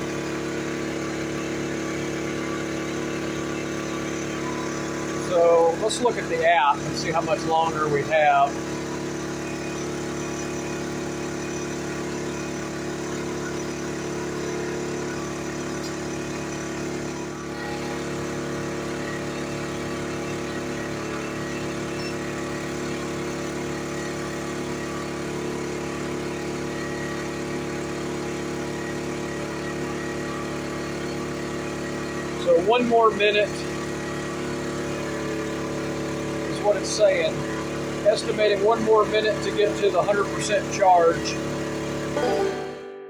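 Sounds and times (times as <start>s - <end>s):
generator engine humming: 0.0s - 43.0s.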